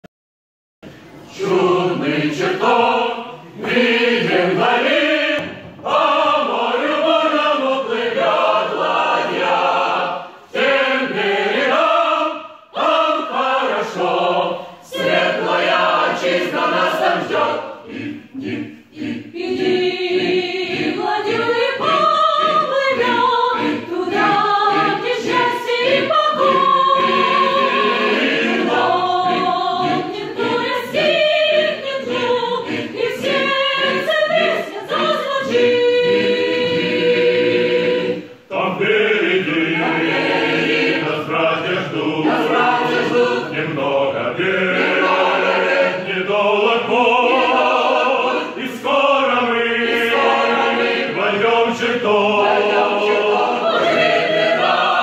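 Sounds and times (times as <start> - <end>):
mixed choir singing a hymn: 1.0 - 55.0.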